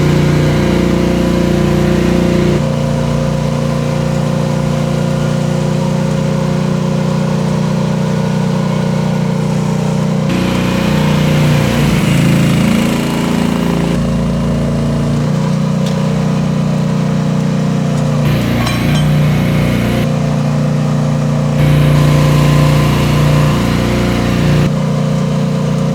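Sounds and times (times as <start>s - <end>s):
mini excavator engine running: 0.0s - 24.8s.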